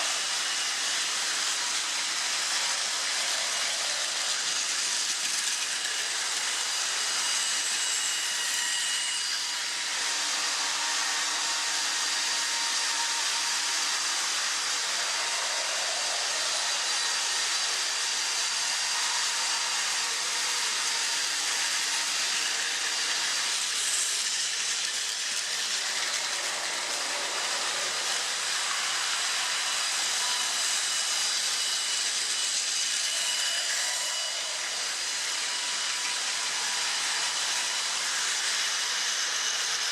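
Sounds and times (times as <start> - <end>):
toy train motor whirring: 0.0 - 39.9.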